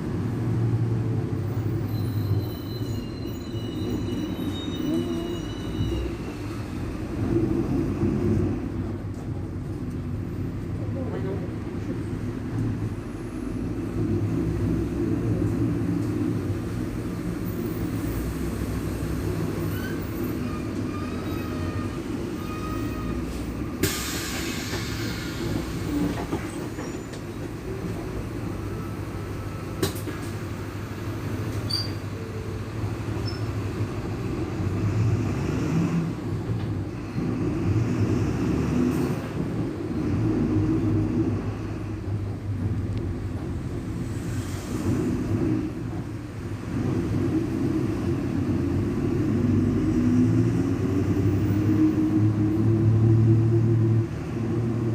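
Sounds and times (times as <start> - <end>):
bus diesel engine droning: 0.0 - 54.9.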